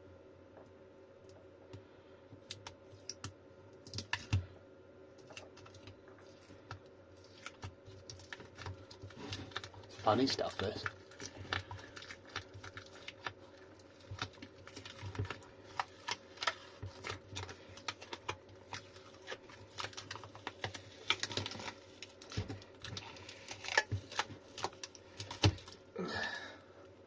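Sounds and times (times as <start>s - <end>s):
hands peeling battery wrapping: 2.4s - 4.4s, 5.2s - 25.9s.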